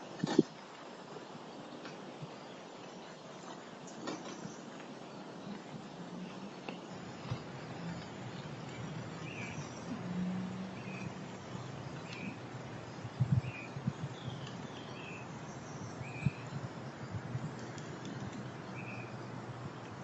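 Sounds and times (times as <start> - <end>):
outdoor hiss: 0.0 - 20.0.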